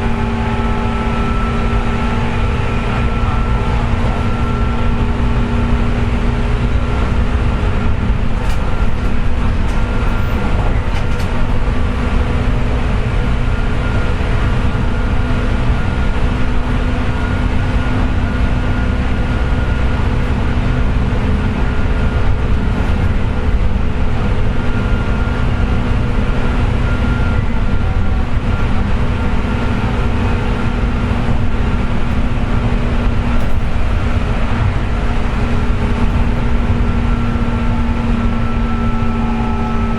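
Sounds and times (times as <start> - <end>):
steady whine: 0.0 - 39.9
train wheels rumbling on rail: 0.0 - 39.9.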